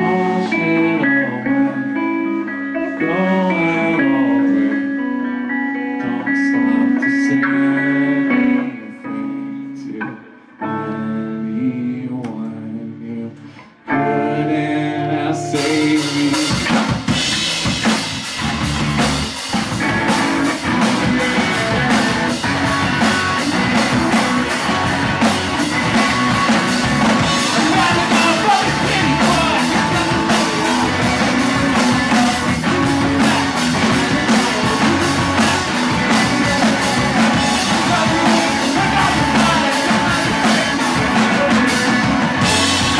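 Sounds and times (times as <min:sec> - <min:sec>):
drums: 0:00.0 - 0:09.2, 0:13.4 - 0:42.9
rock band playing: 0:00.0 - 0:11.2, 0:13.9 - 0:42.9
electric guitar chords: 0:00.0 - 0:42.9.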